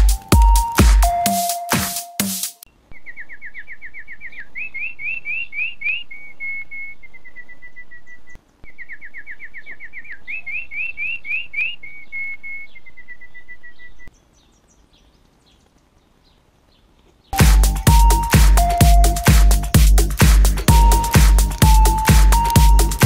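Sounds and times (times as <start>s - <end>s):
songbird singing: 2.7s - 23.0s.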